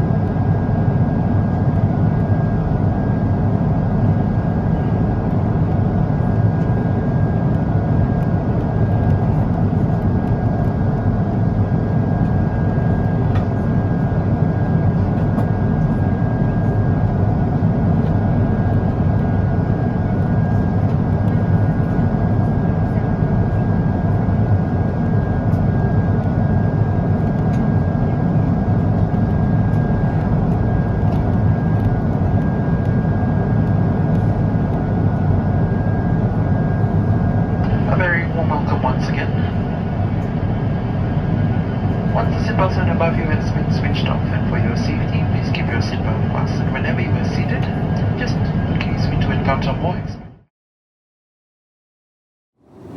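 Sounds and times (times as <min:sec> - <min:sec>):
aircraft cabin rushing hum: 0:00.0 - 0:50.2, 0:52.6 - 0:52.9.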